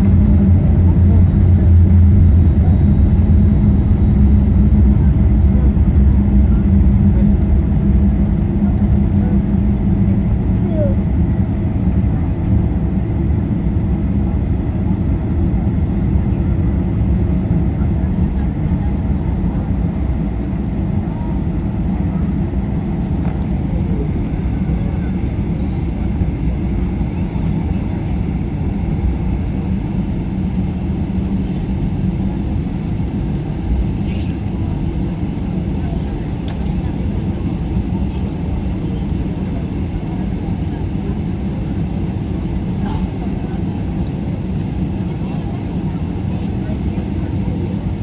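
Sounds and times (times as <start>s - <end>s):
airplane cabin engine rumble: 0.0s - 48.0s.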